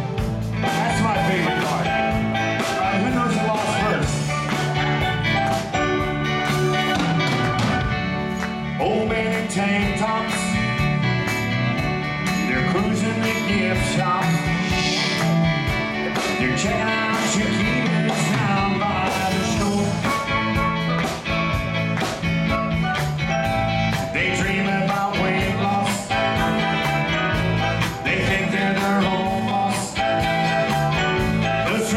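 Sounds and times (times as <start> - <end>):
live pop-rock band: 0.0 - 31.9
steady drum beat: 0.0 - 31.9.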